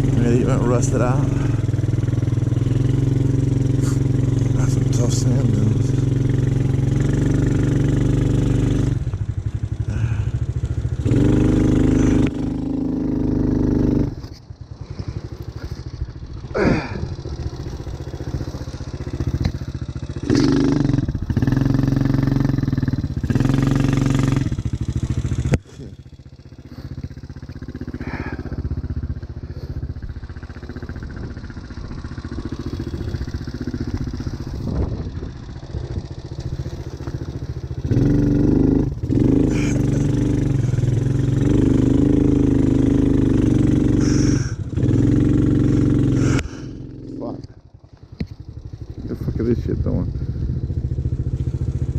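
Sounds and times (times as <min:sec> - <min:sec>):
atv engine revving: 0:00.0 - 0:51.9.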